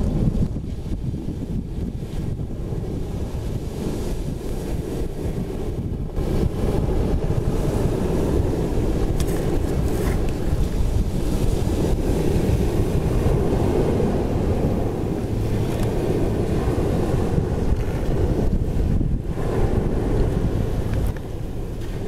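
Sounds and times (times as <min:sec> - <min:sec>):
waves washing onto pebble beach: 0:00.0 - 0:22.0
wind buffeting microphone: 0:00.0 - 0:22.0.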